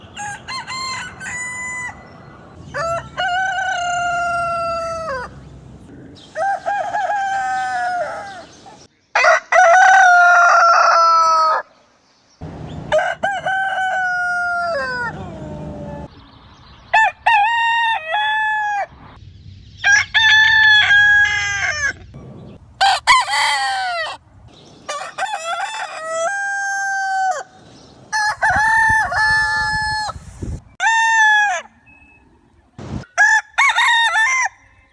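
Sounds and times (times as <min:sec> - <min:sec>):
roosters crowing: 0:00.0 - 0:11.8, 0:12.4 - 0:16.1, 0:17.0 - 0:19.0, 0:19.8 - 0:30.2, 0:30.8 - 0:31.8, 0:33.0 - 0:34.9.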